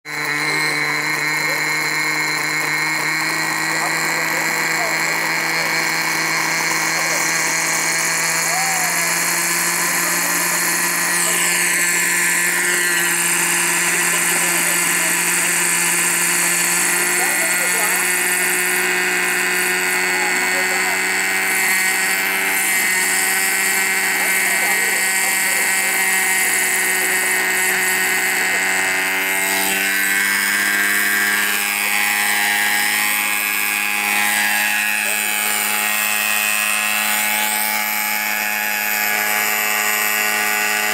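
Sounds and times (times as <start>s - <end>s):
model helicopter engine whine: 0.0s - 40.9s
rotor blades spinning: 0.0s - 40.9s.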